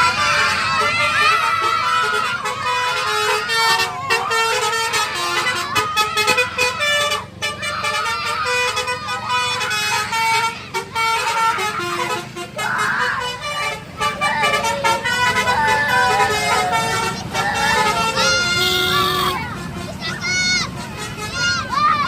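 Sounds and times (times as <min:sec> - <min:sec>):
multi-tone bus horn playing a tune: 0:00.0 - 0:22.0.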